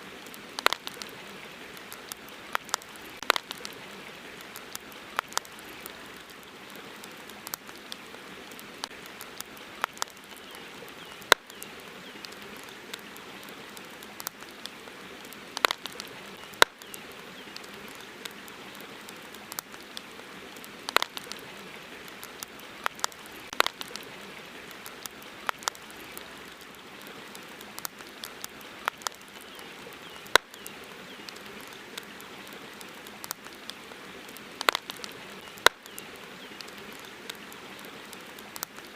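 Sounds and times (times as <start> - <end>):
campfire crackling: 0.0 - 38.9
soft hiss: 0.0 - 38.9.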